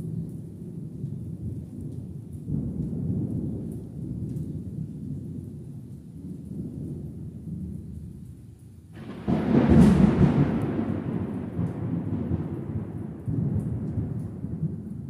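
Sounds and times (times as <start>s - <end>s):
distant thunder rumbling: 0.0s - 8.2s, 8.9s - 15.0s.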